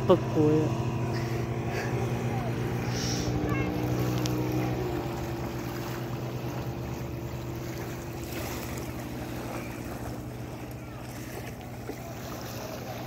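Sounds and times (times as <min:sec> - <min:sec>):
boat motor humming: 0:00.0 - 0:13.0
water washing against hull: 0:00.0 - 0:13.0.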